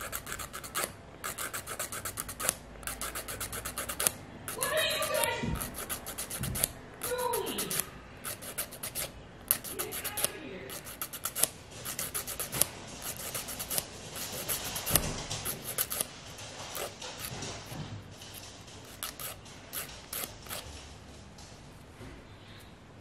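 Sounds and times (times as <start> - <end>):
nail file rasping: 0.0 - 16.1, 16.7 - 17.8, 18.4 - 20.7.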